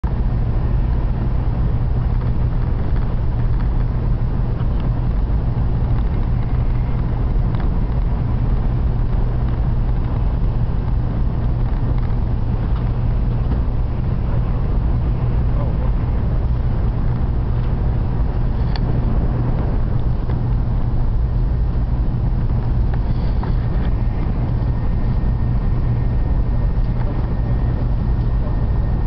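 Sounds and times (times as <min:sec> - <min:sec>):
train low rumble inside cabin: 0:00.0 - 0:29.0.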